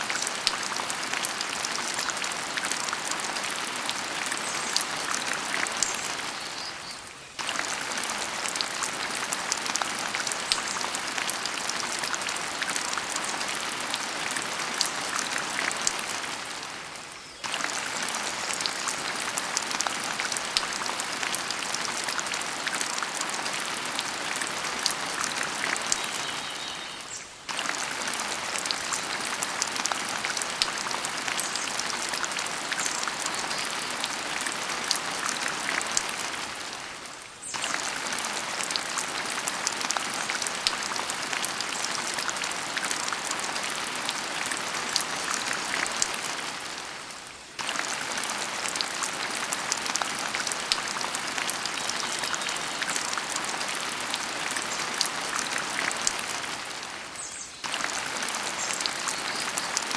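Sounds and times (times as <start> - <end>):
rain-like patter: 0.0 - 59.9.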